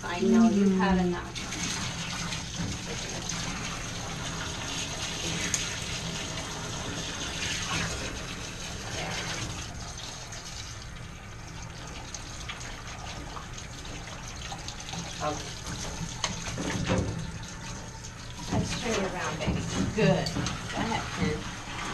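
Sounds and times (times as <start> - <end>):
hose water spraying on dog: 0.0 - 21.9
water splashing into metal tub: 0.8 - 21.9.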